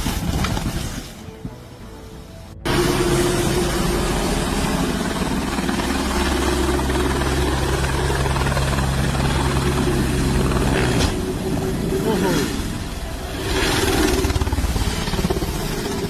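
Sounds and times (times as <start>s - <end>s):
helicopter rotor and engine: 2.6s - 16.0s.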